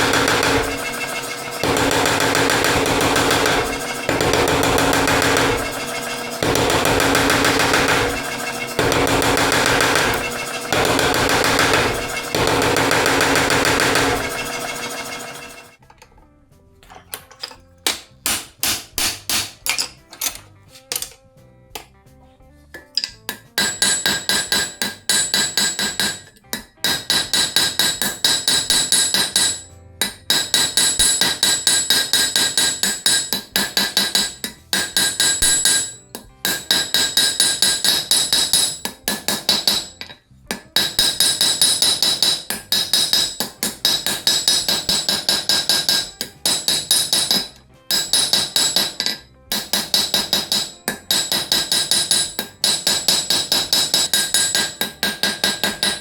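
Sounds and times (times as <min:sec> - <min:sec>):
hammer blows on anvil: 0:00.0 - 0:15.8, 0:17.9 - 0:19.9, 0:22.8 - 0:56.0.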